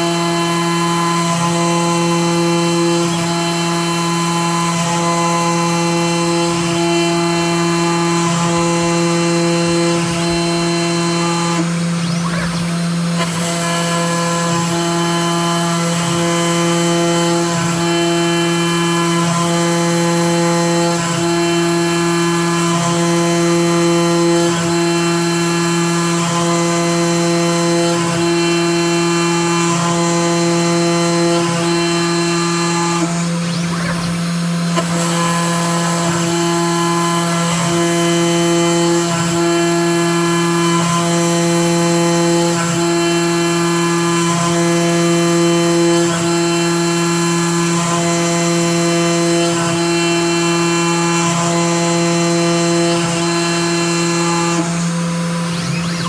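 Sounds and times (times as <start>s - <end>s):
end mill cutting plastic: 0.0s - 56.0s
router spindle hum and whine: 0.0s - 56.0s.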